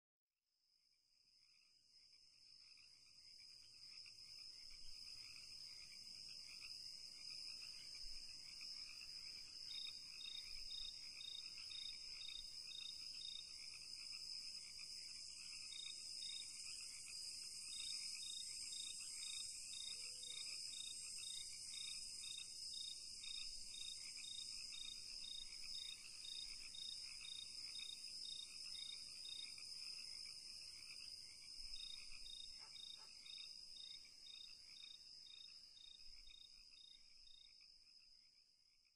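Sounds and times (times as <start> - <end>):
insect chirping: 1.3 - 38.9
insects trilling: 2.7 - 38.0.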